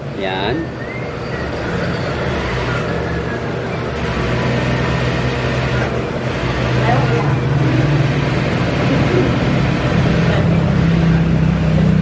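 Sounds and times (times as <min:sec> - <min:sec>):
sewing machine motors humming: 0:00.7 - 0:11.7.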